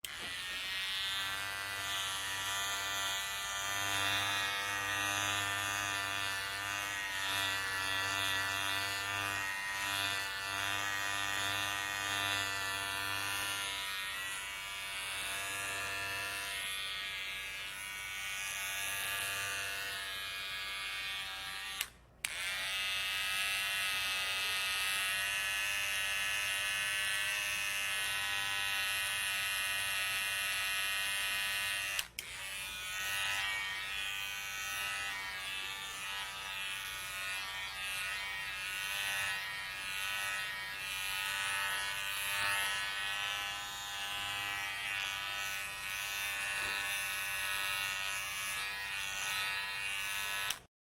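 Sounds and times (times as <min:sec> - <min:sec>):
electric hair clippers buzzing: 0:00.0 - 0:50.7.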